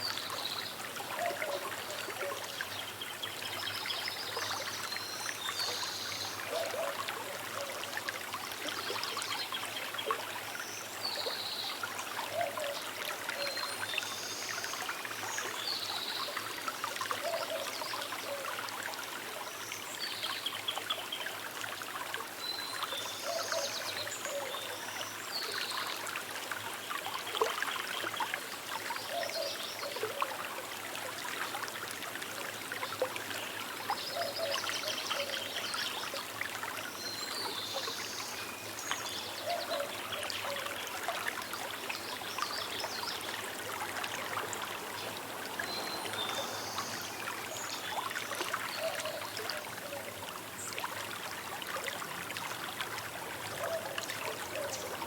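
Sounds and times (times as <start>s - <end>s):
river trickling and burbling: 0.0s - 55.0s.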